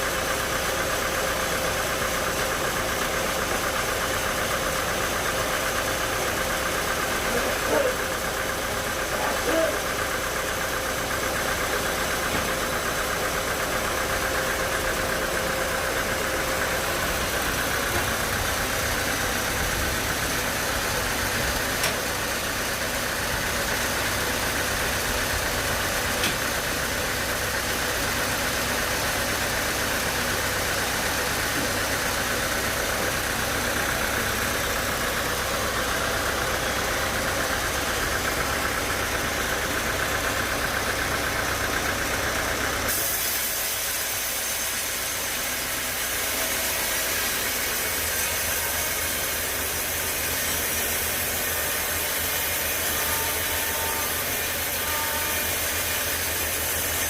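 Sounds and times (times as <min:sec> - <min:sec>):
sawmill machinery drone and whine: 0:00.0 - 0:57.0.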